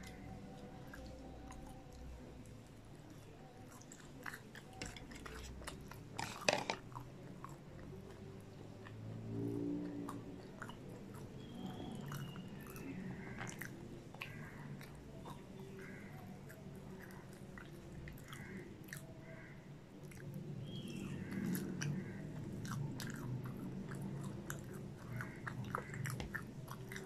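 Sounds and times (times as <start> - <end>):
person chewing crunchy food: 3.1 - 19.4, 20.0 - 27.0.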